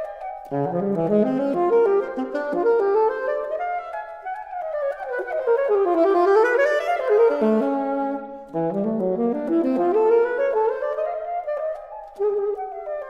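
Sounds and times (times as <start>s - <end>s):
alto saxophone fast melody: 0.4s - 13.0s.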